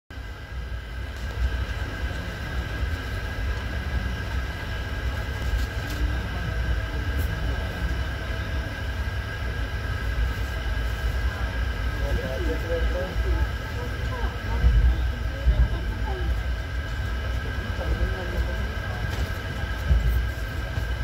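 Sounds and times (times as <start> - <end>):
train low rumble: 0.1 - 21.0.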